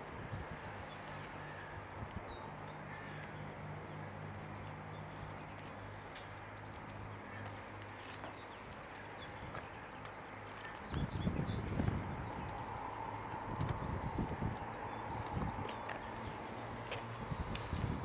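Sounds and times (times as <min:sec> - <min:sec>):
distant aircraft engines droning: 0:00.0 - 0:18.0.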